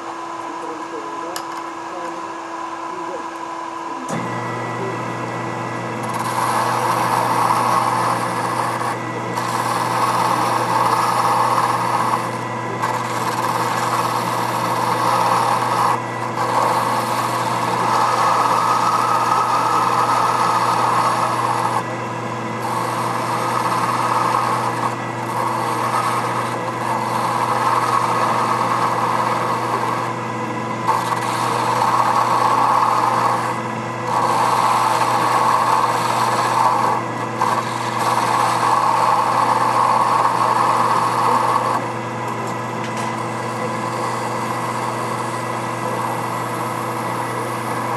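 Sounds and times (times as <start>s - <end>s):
lathe motor hum: 0.0s - 47.9s
graver scraping steel: 5.8s - 21.9s, 22.6s - 47.9s.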